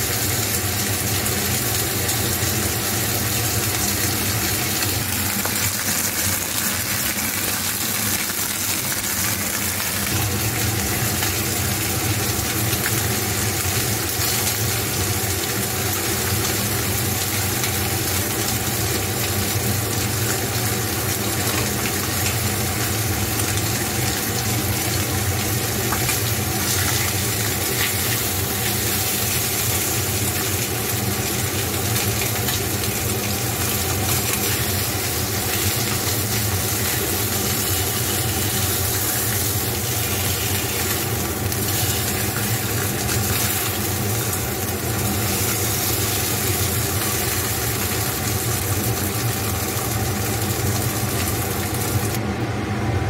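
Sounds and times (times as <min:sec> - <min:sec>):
meat sizzling in a frying pan: 0:00.0 - 0:52.2
low mechanical hum: 0:00.0 - 0:53.0.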